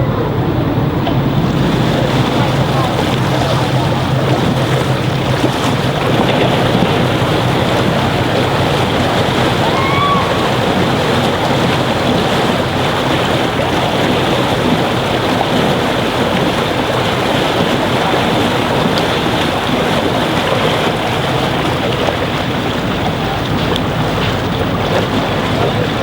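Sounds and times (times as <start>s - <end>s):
water rushing: 0.0s - 26.0s
wind buffeting microphone: 0.0s - 26.0s.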